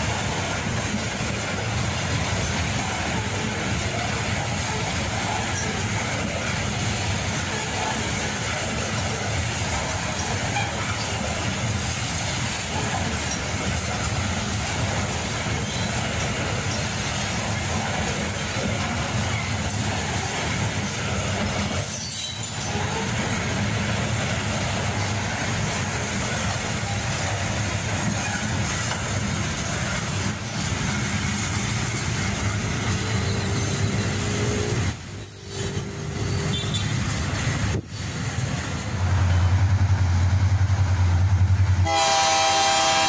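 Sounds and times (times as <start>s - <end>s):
train wheels on rail: 0.0s - 43.0s.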